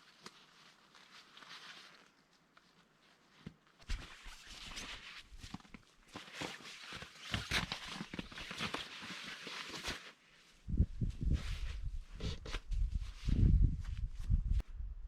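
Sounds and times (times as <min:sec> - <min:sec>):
fabric rustling and crinkling: 0:00.0 - 0:14.8.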